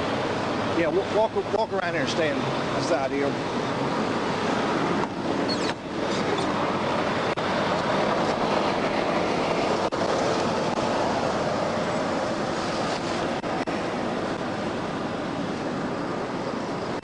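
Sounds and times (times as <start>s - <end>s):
highway traffic roar: 0.0s - 17.0s.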